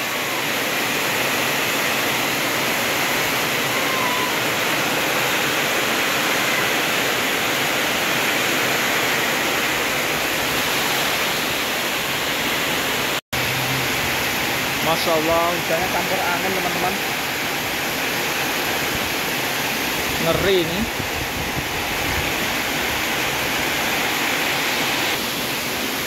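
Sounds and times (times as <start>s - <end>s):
heavy rain in strong wind: 0.0s - 26.0s.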